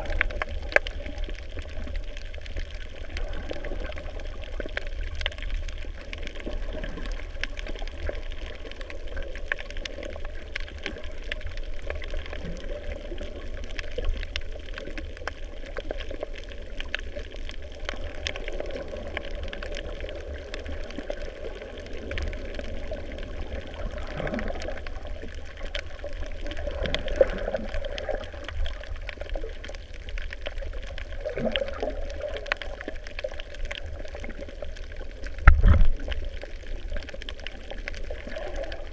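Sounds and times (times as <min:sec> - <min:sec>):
faint clicks and crackles: 0:00.0 - 0:38.9
underwater rumble of moving water: 0:00.0 - 0:38.9.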